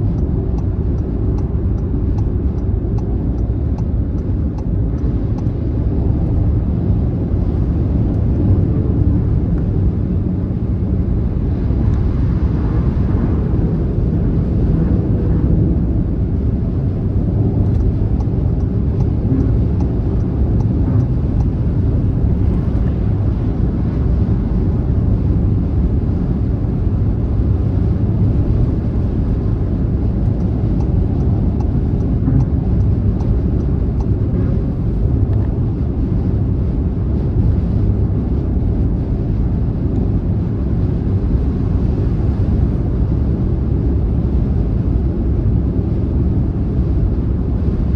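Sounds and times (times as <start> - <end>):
car engine hum: 0.0 - 47.9
road and tyre rumble: 0.0 - 47.9.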